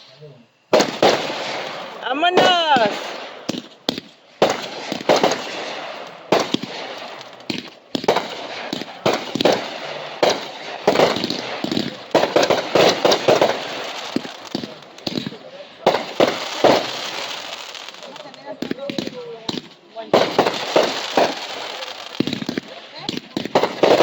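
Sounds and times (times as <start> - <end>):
fireworks bangs with crackling: 0.0 - 24.0.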